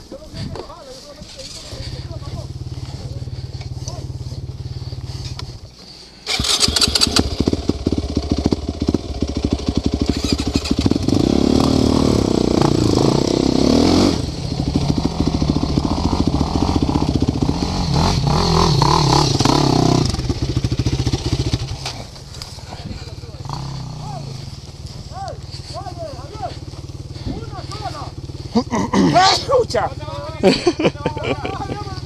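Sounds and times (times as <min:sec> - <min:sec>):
atv engine revving: 0:01.4 - 0:32.0.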